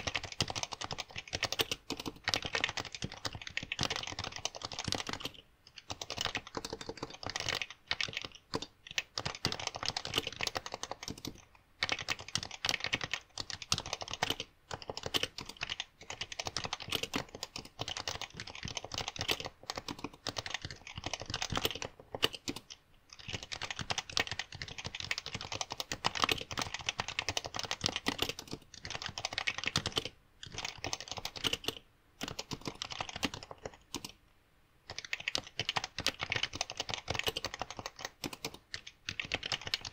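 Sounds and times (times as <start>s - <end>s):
fast keyboard typing: 0.0s - 34.2s, 34.8s - 39.9s.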